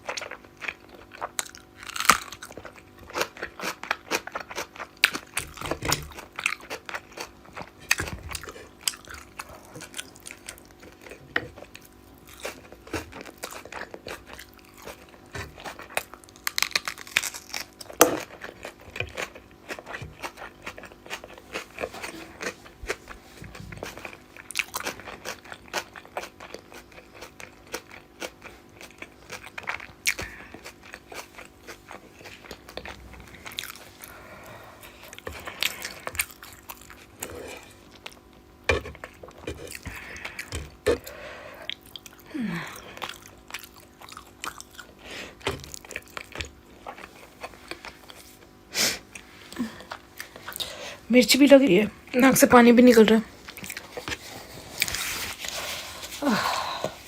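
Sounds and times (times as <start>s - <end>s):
chewing food: 0.0s - 51.0s, 52.2s - 57.0s
food crunching: 0.0s - 51.0s, 52.9s - 57.0s.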